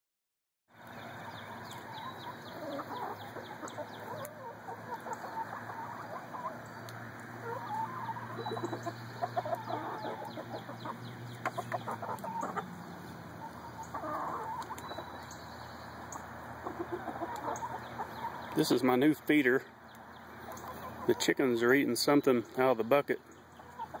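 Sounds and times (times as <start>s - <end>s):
chickens clucking: 0.8s - 24.0s.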